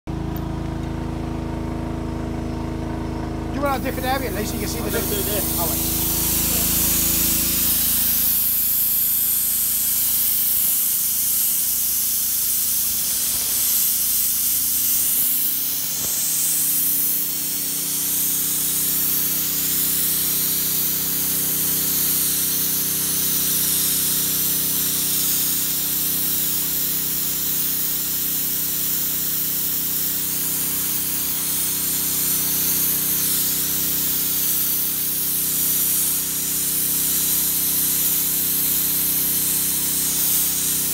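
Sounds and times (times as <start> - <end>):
abrasive blaster hissing: 3.6 - 40.9.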